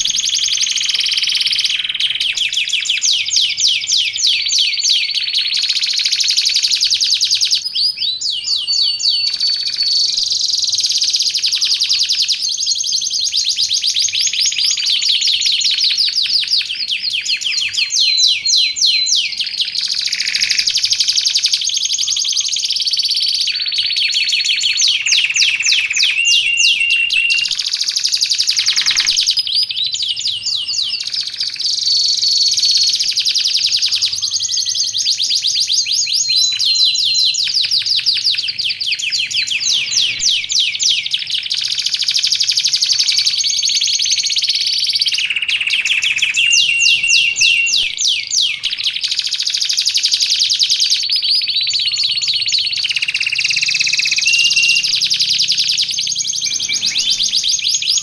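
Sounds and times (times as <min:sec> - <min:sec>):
canary trilling: 0:00.0 - 0:58.0.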